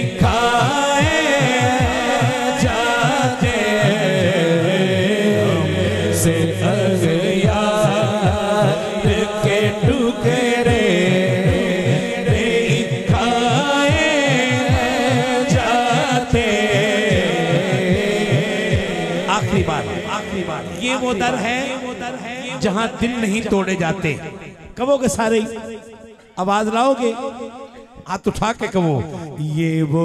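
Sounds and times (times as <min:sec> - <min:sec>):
man singing through microphone: 0:00.0 - 0:25.6
low rhythmic thumps: 0:00.0 - 0:26.4.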